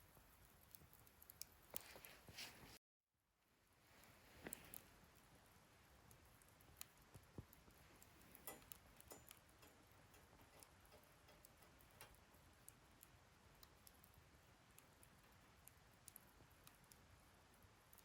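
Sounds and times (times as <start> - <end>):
fire popping and ticking: 0.0 - 2.6, 3.6 - 18.0
wood fire crackling: 0.0 - 2.8, 3.4 - 18.0.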